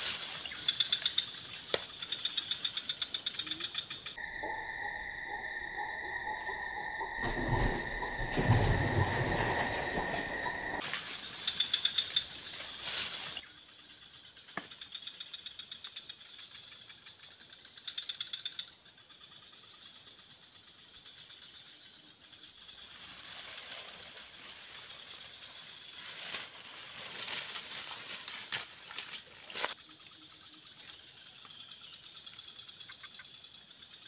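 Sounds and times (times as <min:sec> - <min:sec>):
insects droning: 0:00.0 - 0:34.0
rapid pulsed insect chirps: 0:00.0 - 0:34.0.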